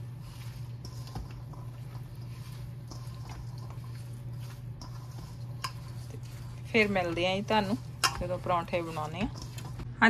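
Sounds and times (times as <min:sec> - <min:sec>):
mashed potato squishing: 0:00.0 - 0:10.0
steady low hum: 0:00.0 - 0:10.0.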